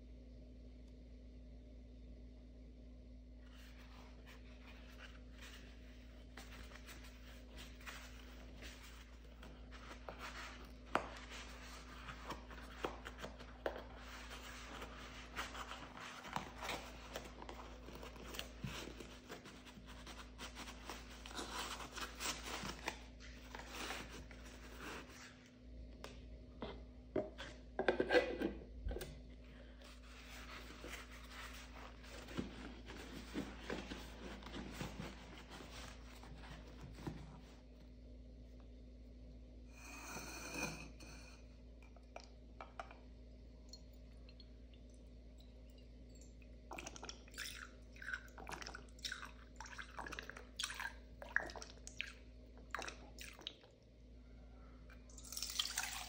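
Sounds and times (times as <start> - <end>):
steady low hum: 0.0 - 55.4.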